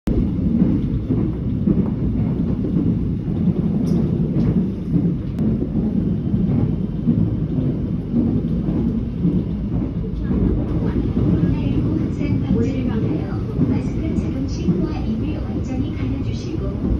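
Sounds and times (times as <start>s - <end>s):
subway train rumble: 0.0s - 16.9s.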